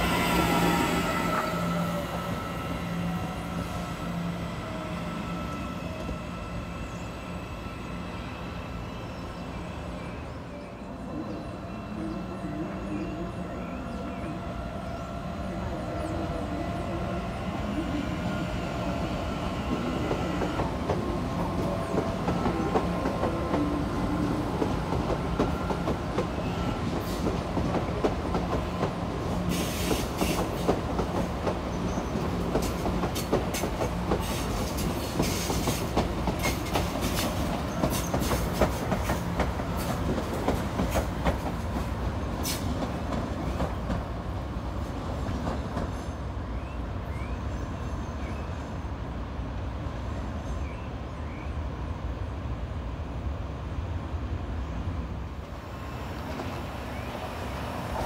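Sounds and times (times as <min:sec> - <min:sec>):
electric train rumbling: 0:00.0 - 0:58.0.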